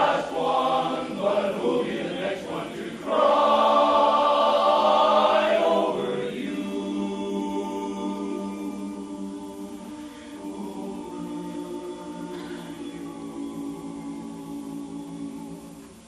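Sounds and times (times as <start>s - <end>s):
men's barbershop chorus singing: 0.0s - 15.8s.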